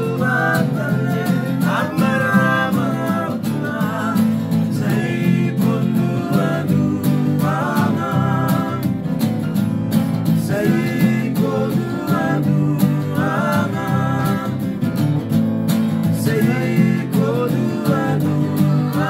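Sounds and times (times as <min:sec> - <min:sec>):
men singing together: 0:00.0 - 0:09.5, 0:10.2 - 0:15.0, 0:15.9 - 0:19.0
acoustic guitar strumming: 0:00.0 - 0:19.0.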